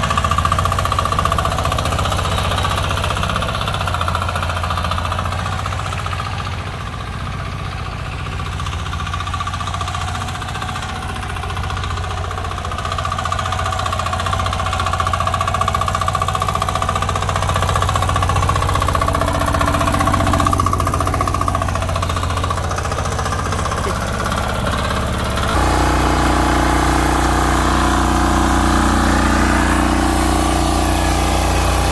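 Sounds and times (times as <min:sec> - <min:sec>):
tiller engine running: 0:00.0 - 0:31.9.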